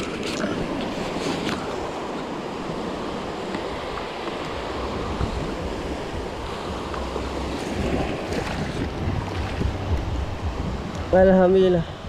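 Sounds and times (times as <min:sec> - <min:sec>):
sea waves washing in: 0:00.0 - 0:12.0
wind buffeting microphone: 0:00.0 - 0:12.0.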